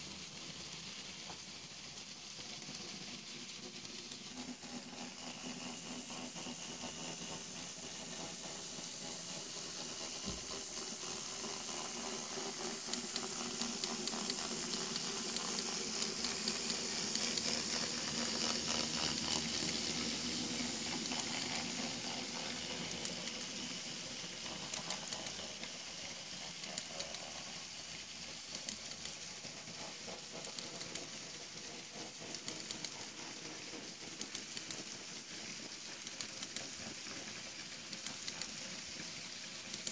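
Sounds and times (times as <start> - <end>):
model train rolling on track: 0.0 - 39.9.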